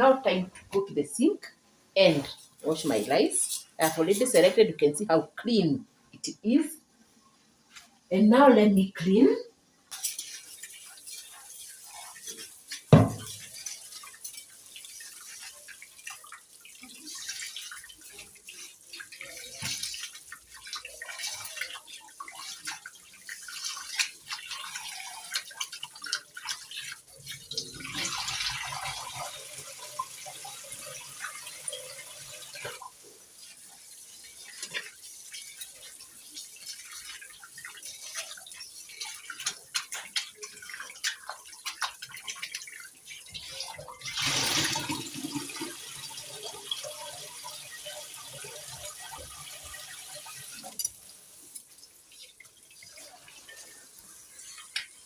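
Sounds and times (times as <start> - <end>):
water splashing and dripping: 2.1 - 4.5, 9.9 - 55.0.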